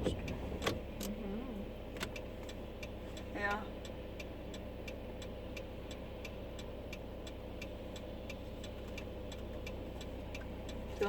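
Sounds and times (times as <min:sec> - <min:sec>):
car cabin hum: 0:00.0 - 0:11.0
car turn signal ticking: 0:00.0 - 0:11.0.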